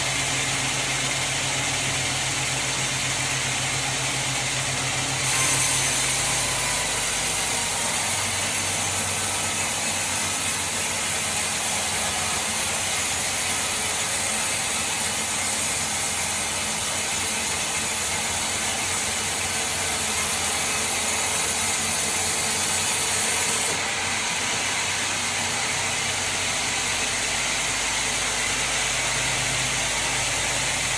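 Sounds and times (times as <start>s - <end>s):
sawmill machinery humming: 0.0s - 30.9s.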